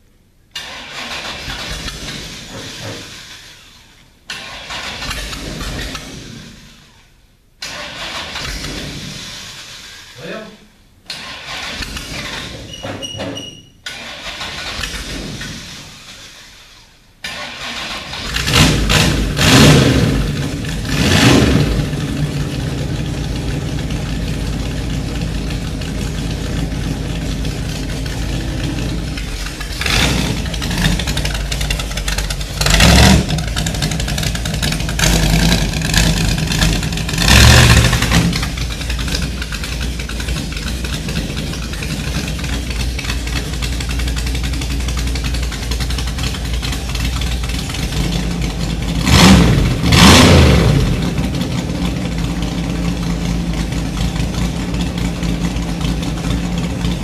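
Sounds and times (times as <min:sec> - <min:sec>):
race car engine revving and idling: 0:00.6 - 0:10.2, 0:14.3 - 0:57.0.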